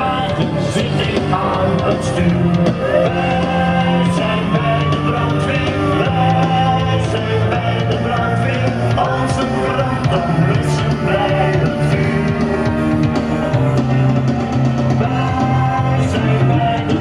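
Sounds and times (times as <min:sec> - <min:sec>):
rock music with singer: 0:00.0 - 0:17.0.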